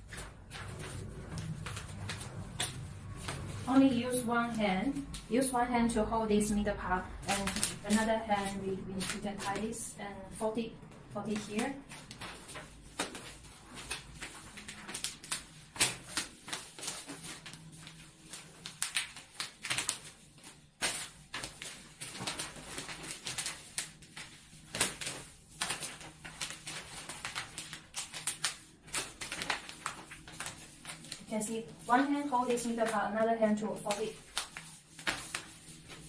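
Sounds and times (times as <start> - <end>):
wrapping paper crinkling: 0.0 - 5.4, 7.1 - 10.0, 11.3 - 36.0.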